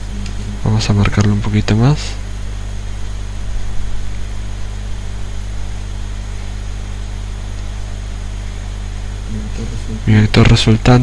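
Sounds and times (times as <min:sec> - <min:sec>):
even hiss: 0:00.0 - 0:11.0
low electrical hum: 0:00.0 - 0:11.0.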